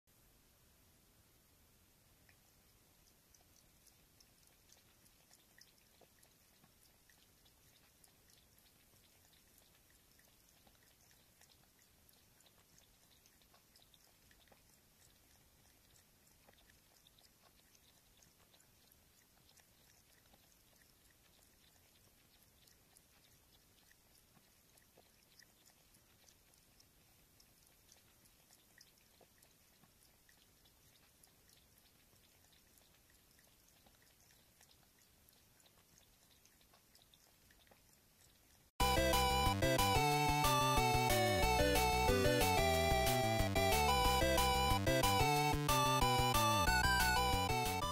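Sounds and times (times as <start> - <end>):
cat lapping water: 0.1 - 47.9.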